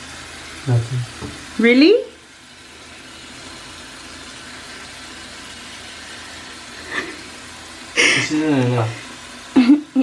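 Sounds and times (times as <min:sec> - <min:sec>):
tap water running into sink: 0:00.0 - 0:10.0.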